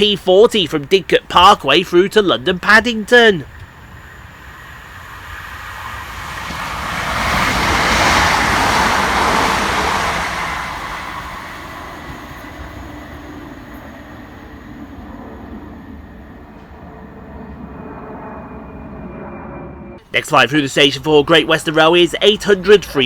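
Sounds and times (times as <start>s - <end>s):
electric train passing at speed: 0.0s - 23.0s.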